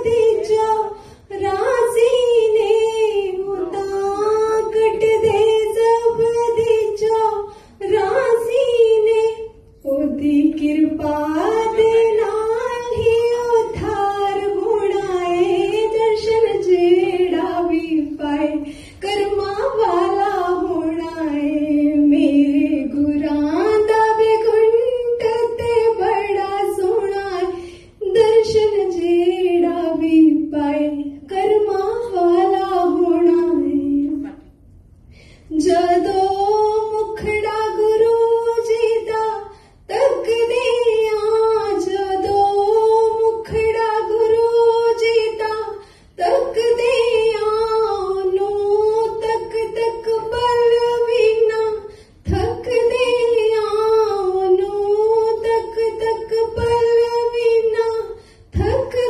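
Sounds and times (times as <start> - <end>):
woman singing into a microphone: 0.0 - 34.4, 35.5 - 59.0.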